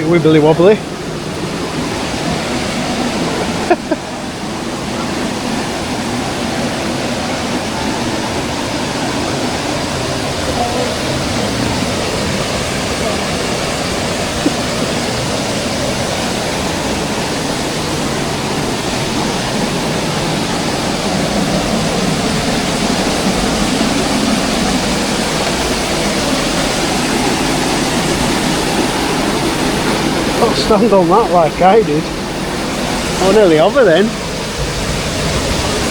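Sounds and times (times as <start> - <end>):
waterfall and river rushing: 0.0 - 35.9.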